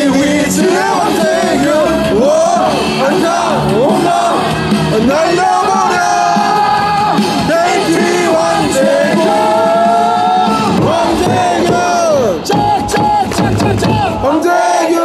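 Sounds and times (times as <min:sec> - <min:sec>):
cheer song over sound system: 0:00.0 - 0:15.0
fans yelling: 0:00.0 - 0:15.0.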